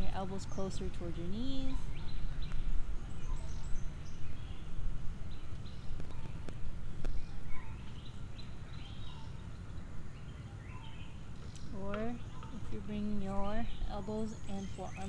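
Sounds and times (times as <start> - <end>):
birds chirping: 0.0 - 15.0
low uneven rumble: 0.0 - 15.0.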